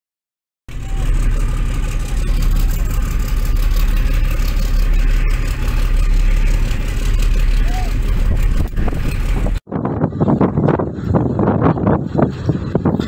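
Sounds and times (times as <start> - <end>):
boat engine rumble: 0.7 - 13.0.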